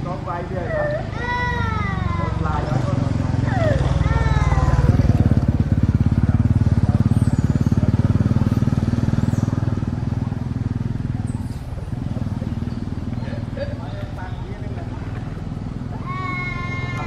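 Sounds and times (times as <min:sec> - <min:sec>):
small engine running: 0:01.6 - 0:17.0.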